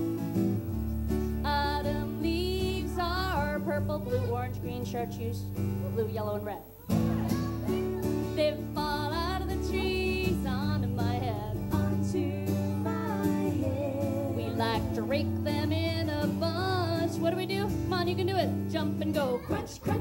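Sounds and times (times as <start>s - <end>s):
acoustic guitar strumming: 0.0s - 20.0s
women singing: 1.4s - 5.4s, 7.7s - 20.0s.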